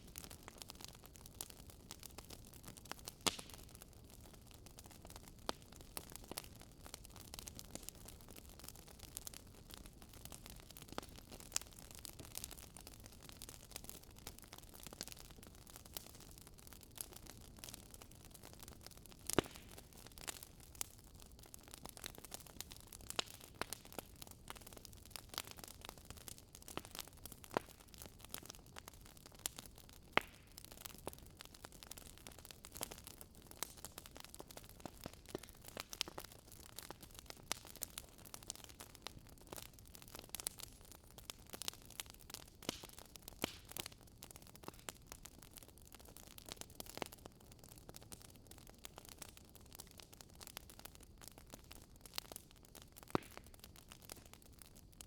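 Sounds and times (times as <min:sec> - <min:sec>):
firewood crackling: 0:00.0 - 0:55.0.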